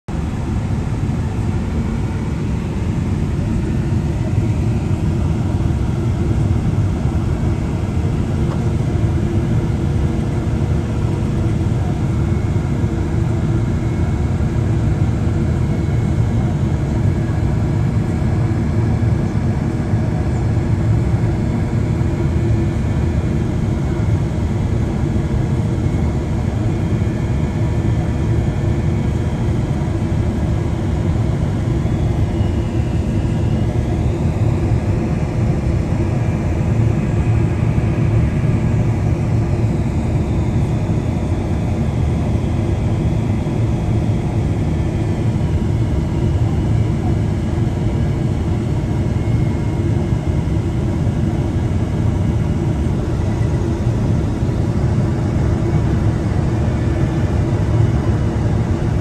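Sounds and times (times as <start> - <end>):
airplane cabin engine rumble: 0.1 - 59.0.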